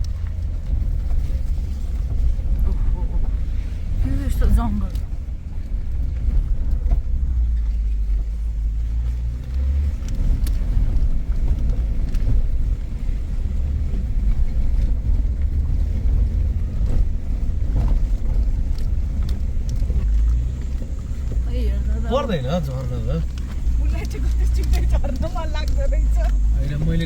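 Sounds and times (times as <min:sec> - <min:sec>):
off-road vehicle engine rumble: 0:00.0 - 0:27.0.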